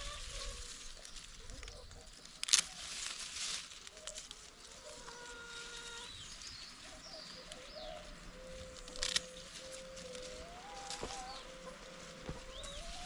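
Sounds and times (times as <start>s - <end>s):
hens calling: 0.0s - 2.4s, 4.0s - 13.0s
small birds chirping: 0.0s - 3.2s, 3.9s - 13.0s.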